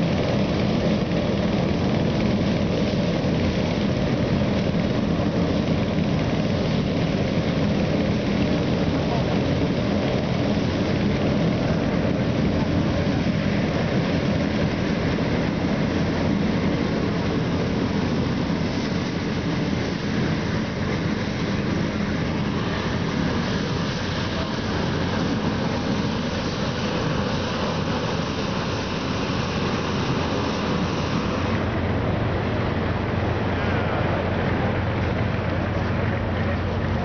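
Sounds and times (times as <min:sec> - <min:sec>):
mechanical roar with low hum: 0:00.0 - 0:37.0.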